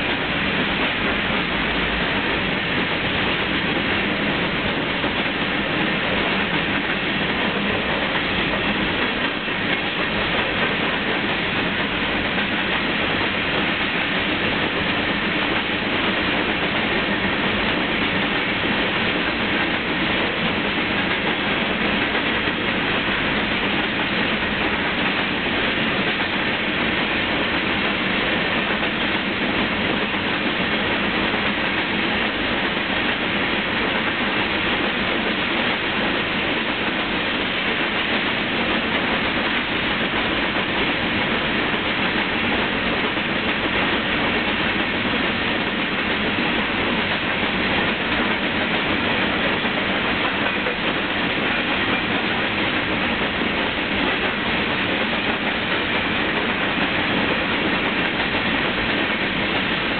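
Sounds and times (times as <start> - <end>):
steel wheels running on rails: 0.0 - 59.9.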